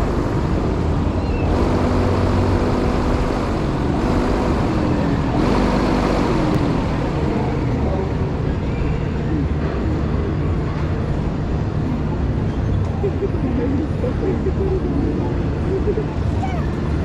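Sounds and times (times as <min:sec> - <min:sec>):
fairground ride noise: 0:00.0 - 0:17.0.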